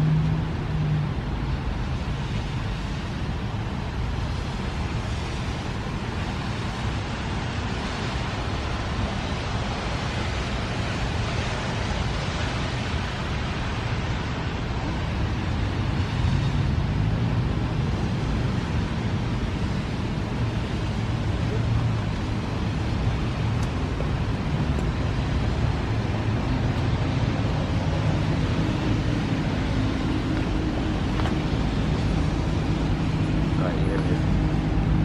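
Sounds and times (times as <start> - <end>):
car and tyre noise: 0.0 - 35.0
low engine hum: 0.0 - 35.0.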